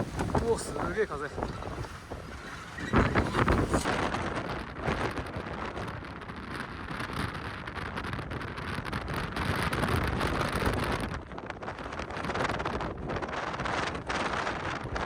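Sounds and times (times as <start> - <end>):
gusting wind buffeting microphone: 0.0 - 15.0.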